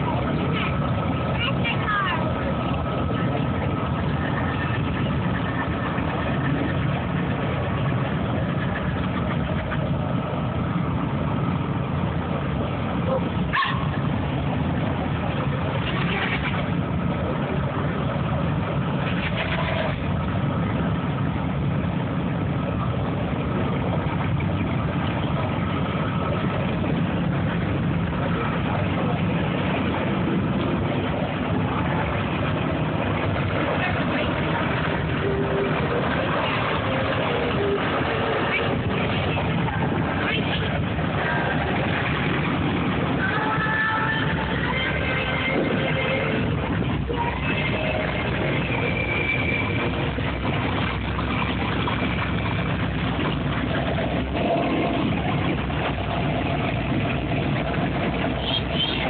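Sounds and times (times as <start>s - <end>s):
car engines at low revs: 0.0s - 59.0s
street noise: 0.0s - 59.0s.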